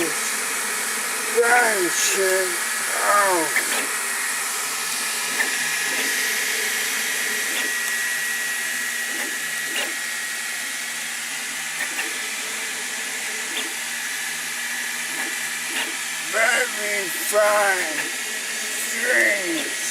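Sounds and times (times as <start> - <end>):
cooling fans whooshing: 0.0 - 19.9
thin high whine: 0.0 - 19.9.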